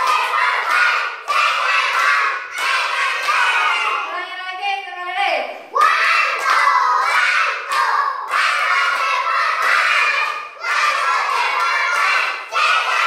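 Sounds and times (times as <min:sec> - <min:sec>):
children shouting together: 0:00.0 - 0:04.1, 0:05.7 - 0:13.0.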